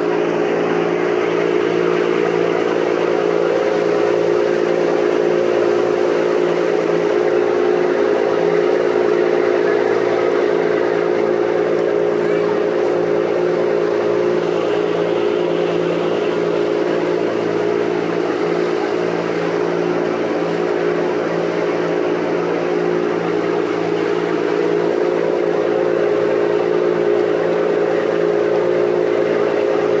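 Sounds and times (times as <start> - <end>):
boat engine humming: 0.0 - 30.0
rushing water and air: 0.0 - 30.0.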